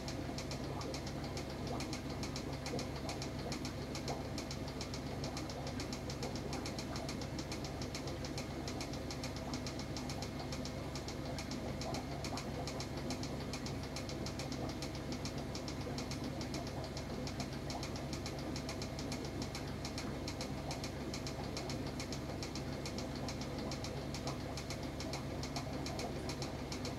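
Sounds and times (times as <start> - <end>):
steady mechanical hum: 0.0 - 26.9.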